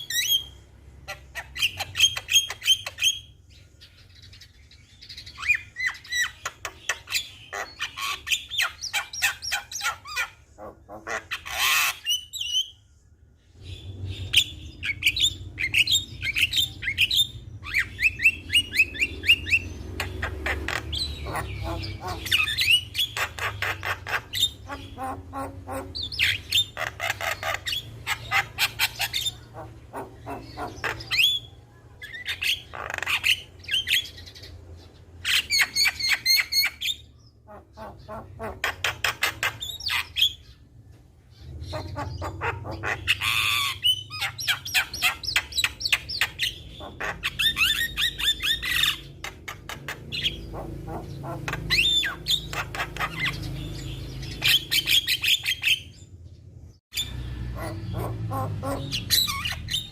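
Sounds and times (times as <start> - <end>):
bird singing with clicks and squawks: 0.0 - 59.9.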